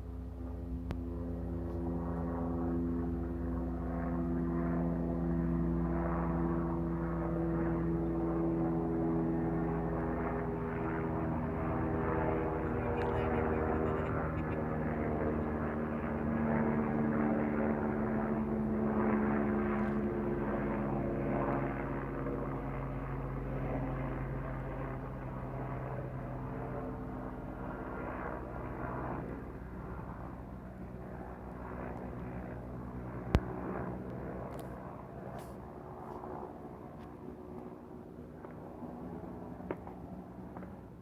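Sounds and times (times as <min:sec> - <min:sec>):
helicopter passing over: 0:00.0 - 0:41.0.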